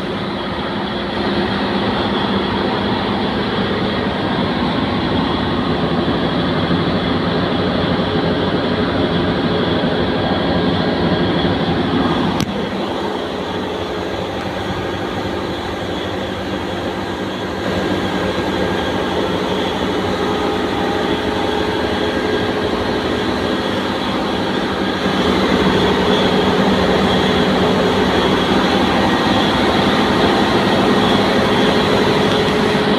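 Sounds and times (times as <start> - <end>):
air compressor running: 0.0 - 32.9.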